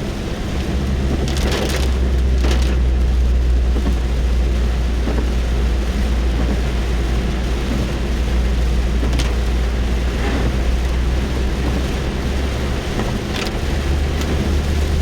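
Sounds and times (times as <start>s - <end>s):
low rumble: 0.0s - 12.8s
rain on car roof: 0.0s - 15.0s.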